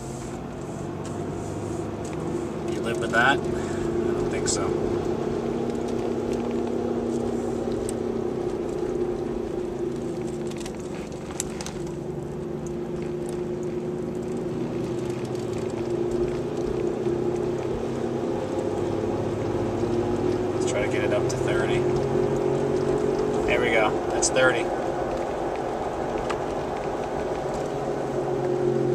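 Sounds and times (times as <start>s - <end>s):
road and engine noise: 0.0s - 28.9s
wheel bearing drone: 0.0s - 28.9s.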